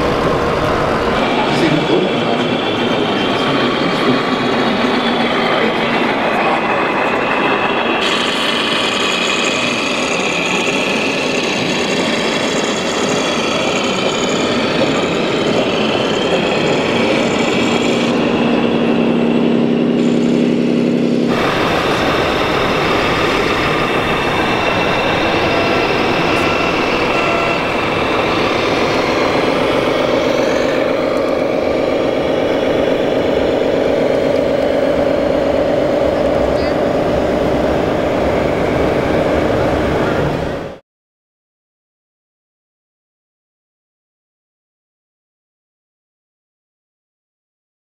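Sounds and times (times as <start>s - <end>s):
diesel engine running: 0.0s - 40.8s.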